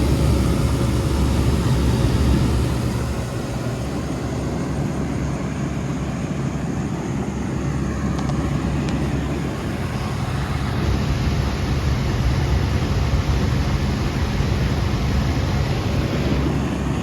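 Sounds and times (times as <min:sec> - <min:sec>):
fan whooshing: 0:00.0 - 0:17.0
low compressor hum: 0:00.0 - 0:17.0.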